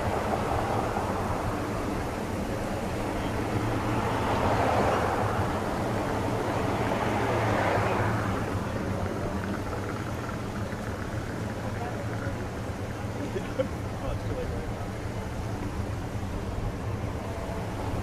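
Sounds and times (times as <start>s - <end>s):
low engine hum: 0.0s - 18.0s
vehicles passing: 0.0s - 18.0s.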